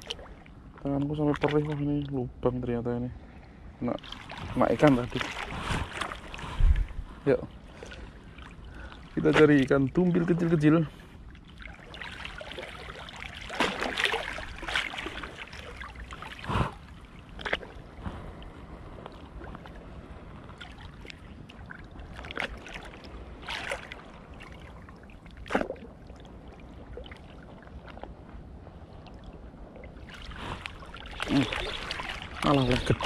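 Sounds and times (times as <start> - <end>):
sea water lapping and splashing: 0.0 - 2.4, 3.0 - 33.0
low steady rumble: 0.0 - 33.0.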